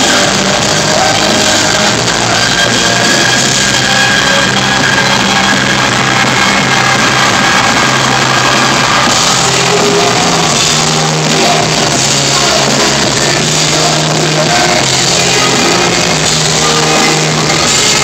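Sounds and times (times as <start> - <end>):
rock band with singer: 0.0 - 18.0.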